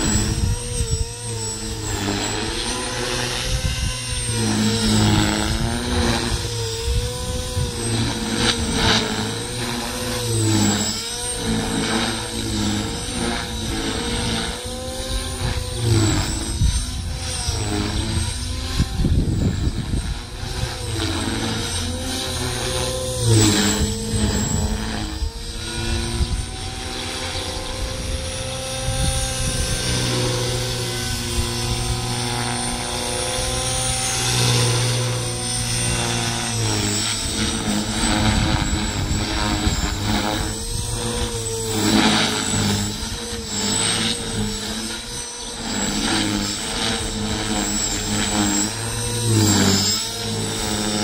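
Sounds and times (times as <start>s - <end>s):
wind buffeting microphone: 0.0s - 10.8s, 11.4s - 45.2s
rc helicopter rotor whine: 0.0s - 51.0s.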